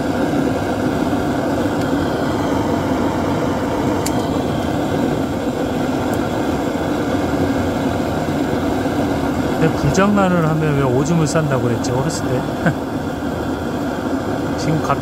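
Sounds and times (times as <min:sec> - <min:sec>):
gas torch roaring: 0:00.0 - 0:15.0.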